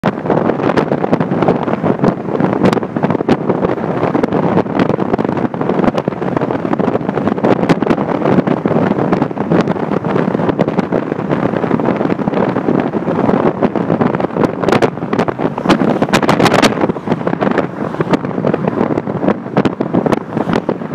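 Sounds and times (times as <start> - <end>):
tyre and road rumble: 0.0 - 20.9
car knocks and rattles: 0.4 - 20.9.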